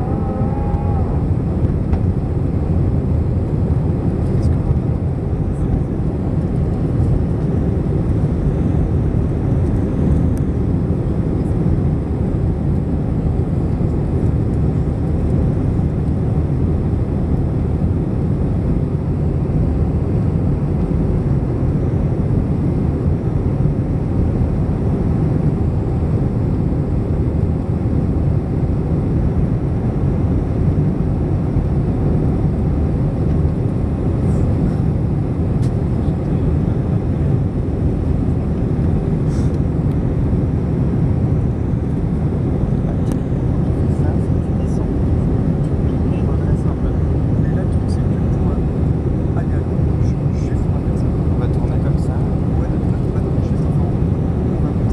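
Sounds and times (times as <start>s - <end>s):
jet engine cabin roar: 0.0s - 54.9s.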